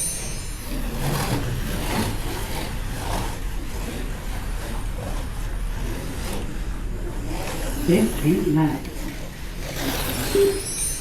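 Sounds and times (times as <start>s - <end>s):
slot cars buzzing on track: 0.0s - 11.0s.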